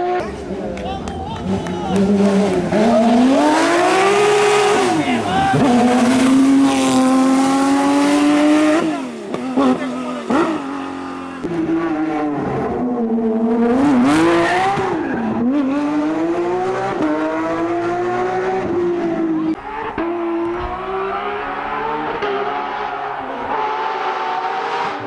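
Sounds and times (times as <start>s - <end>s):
rally car engine revving: 2.0s - 25.0s.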